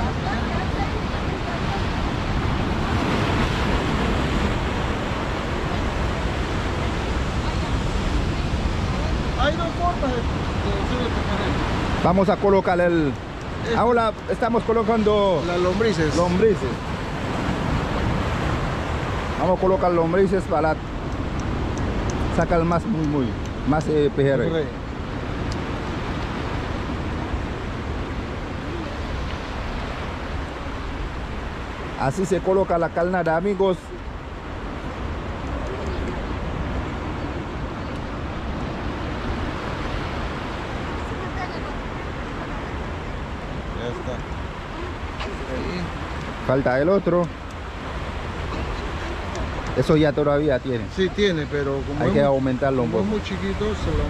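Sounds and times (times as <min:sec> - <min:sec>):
surf breaking over rocks: 0:00.0 - 0:54.0
wind rumbling on microphone: 0:00.0 - 0:54.0.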